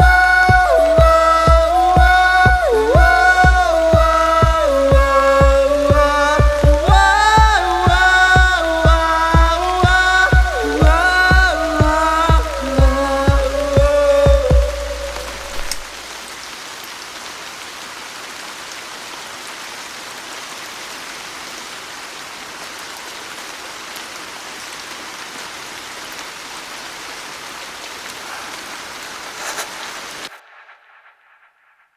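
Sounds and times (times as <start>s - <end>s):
rain falling: 0.0s - 30.5s.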